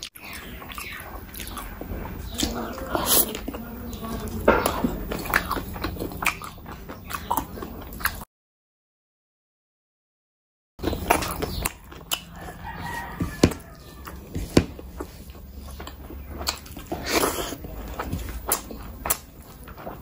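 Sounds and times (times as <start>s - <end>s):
chewing food: 0.0s - 8.3s, 10.8s - 20.0s.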